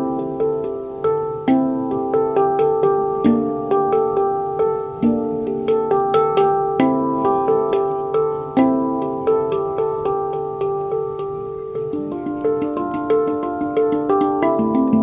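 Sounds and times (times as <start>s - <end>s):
handpan melody: 0.0s - 15.0s.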